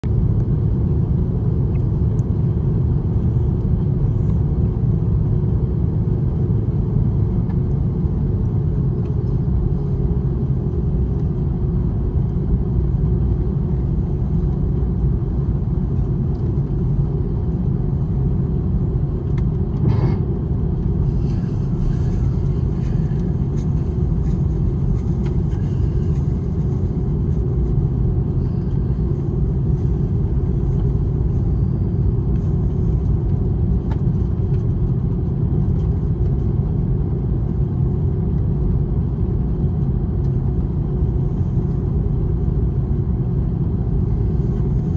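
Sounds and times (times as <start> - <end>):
jet engines rumbling: 0.1 - 44.9.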